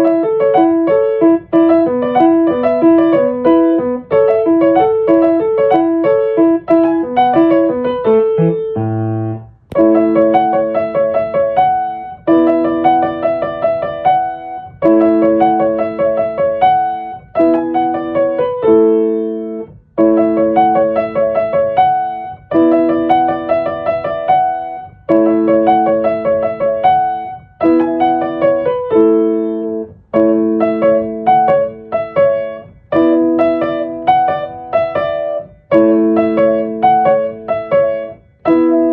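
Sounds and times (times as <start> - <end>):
solo piano music: 0.0 - 38.9.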